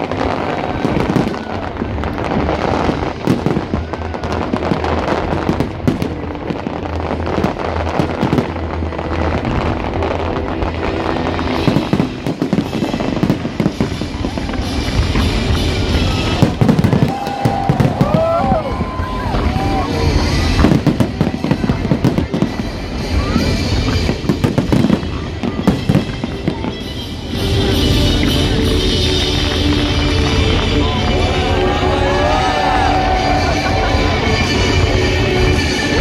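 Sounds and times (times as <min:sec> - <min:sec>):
fireworks bangs and crackling: 0:00.0 - 0:36.0
music playing: 0:00.0 - 0:36.0.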